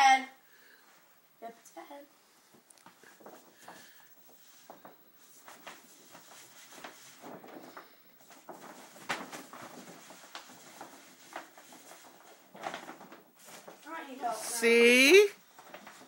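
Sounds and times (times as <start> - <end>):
plastic sheet rustling and crackling: 2.4 - 16.0.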